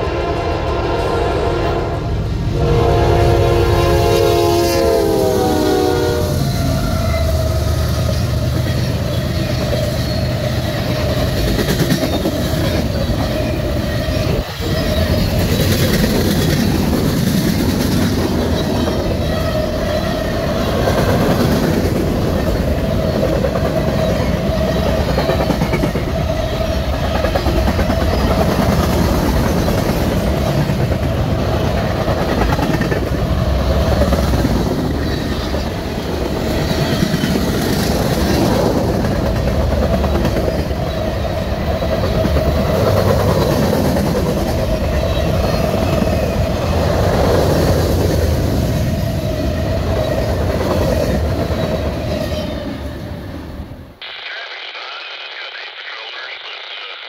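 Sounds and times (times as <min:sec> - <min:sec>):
freight train wheels on rail: 0:00.0 - 0:53.7.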